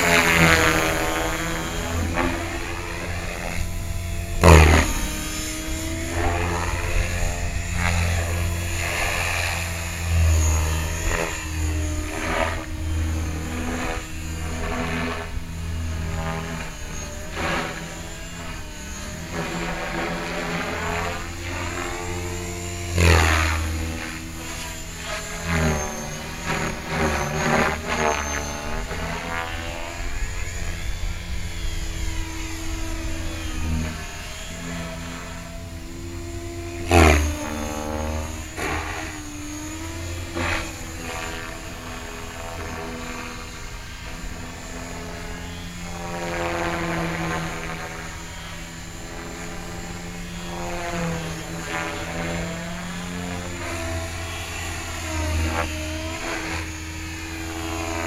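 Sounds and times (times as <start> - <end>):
rc helicopter rotor whirring: 0.0 - 58.0.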